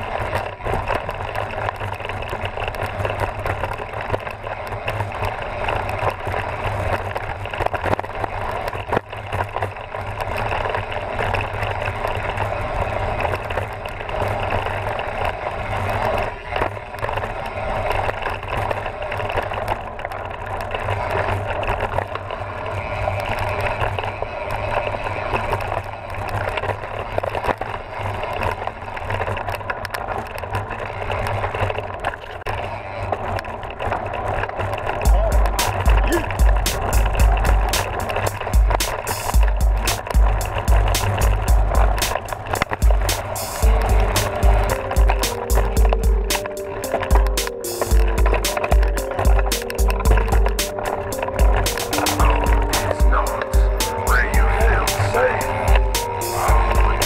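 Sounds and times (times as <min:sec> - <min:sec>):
bike rattling over bumps: 0:00.0 - 0:57.0
bike tyres rolling over dirt: 0:00.0 - 0:57.0.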